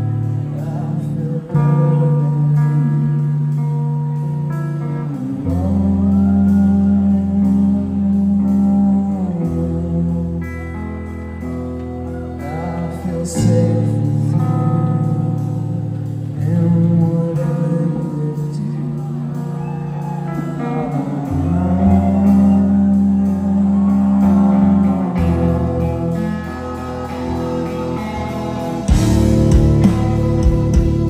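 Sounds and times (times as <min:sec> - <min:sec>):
bass guitar: 0:00.0 - 0:31.0
drums: 0:00.0 - 0:31.0
electric guitars: 0:00.0 - 0:31.0.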